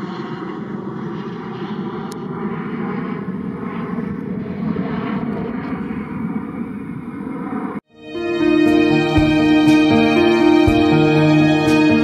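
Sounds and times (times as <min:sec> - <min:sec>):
airliner jet engines climbing: 0:00.0 - 0:12.0.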